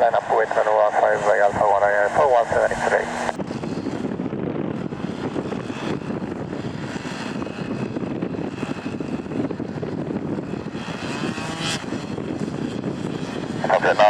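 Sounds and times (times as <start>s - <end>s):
faint high engine whine: 0.0s - 14.0s
jet engines rumbling: 0.0s - 14.0s.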